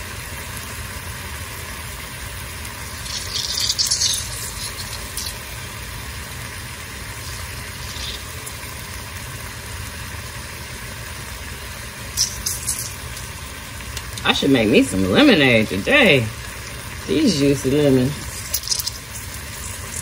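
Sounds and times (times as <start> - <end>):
juice dripping into hot pan: 0.0 - 20.0.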